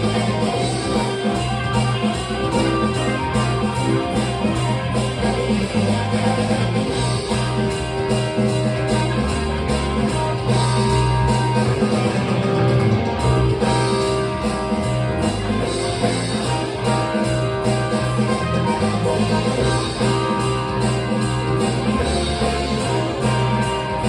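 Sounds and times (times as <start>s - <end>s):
bass guitar: 0.0s - 24.0s
drum kit steady beat: 0.0s - 24.0s
guitar: 0.0s - 24.0s.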